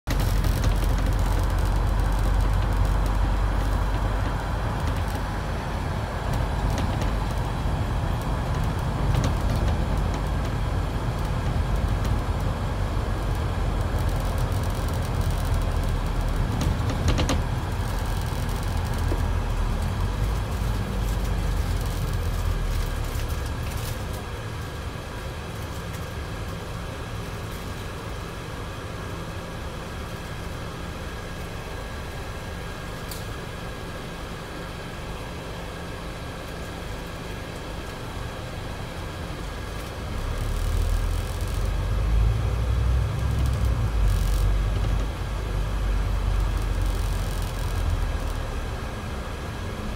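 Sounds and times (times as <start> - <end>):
bus diesel engine rumbling: 0.0 - 49.9.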